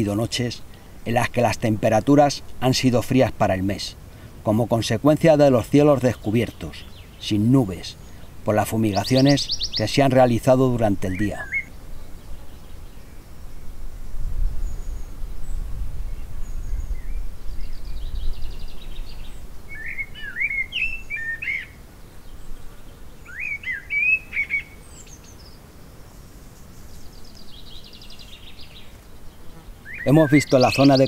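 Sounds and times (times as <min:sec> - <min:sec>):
small birds chirping: 0:00.0 - 0:13.7, 0:14.4 - 0:31.0.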